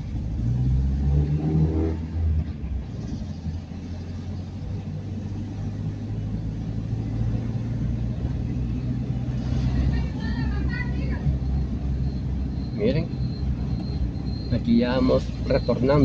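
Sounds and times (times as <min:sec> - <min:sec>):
car engine drone: 0:00.0 - 0:16.0
road noise inside car: 0:00.0 - 0:16.0.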